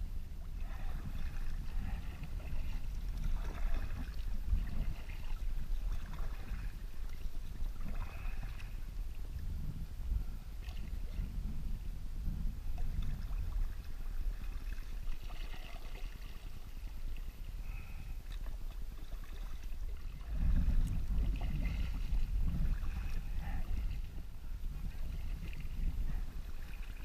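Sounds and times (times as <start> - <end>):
uneven low rumble: 0.0 - 27.0
paddle splashing water: 0.4 - 8.8, 10.6 - 11.3, 12.8 - 27.0.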